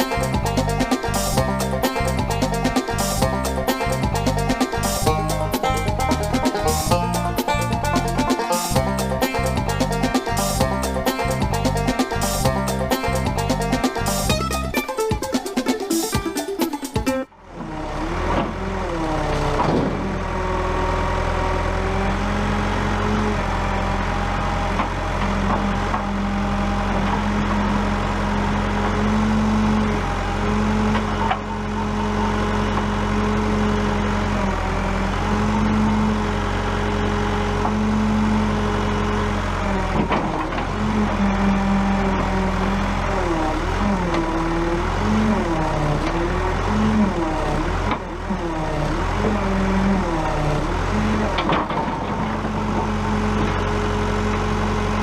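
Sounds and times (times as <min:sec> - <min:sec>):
diesel engine under load: 0:00.0 - 0:14.8, 0:17.3 - 0:55.0.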